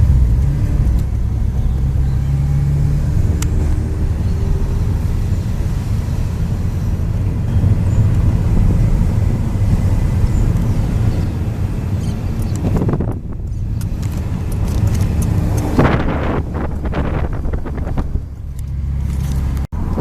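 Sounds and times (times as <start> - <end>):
car engine exhaust note: 0.0 - 20.0.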